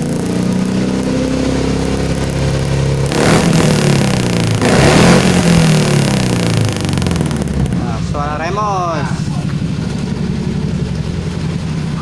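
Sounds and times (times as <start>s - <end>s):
engine idling and revving: 0.0s - 12.0s.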